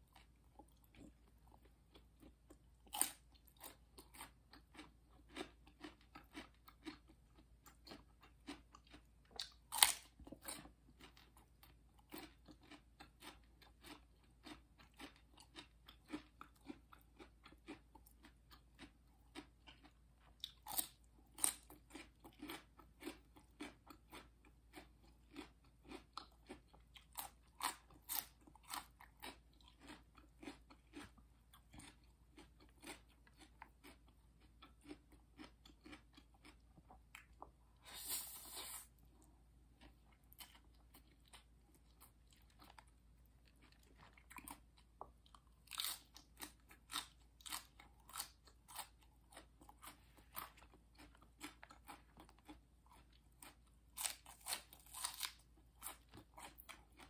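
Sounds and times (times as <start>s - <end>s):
person chewing crunchy food: 0.0s - 57.0s.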